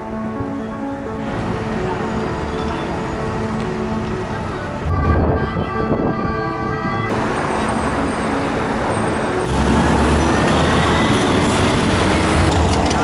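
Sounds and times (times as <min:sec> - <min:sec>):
car and scooter engines: 0:01.2 - 0:05.6, 0:06.6 - 0:13.0.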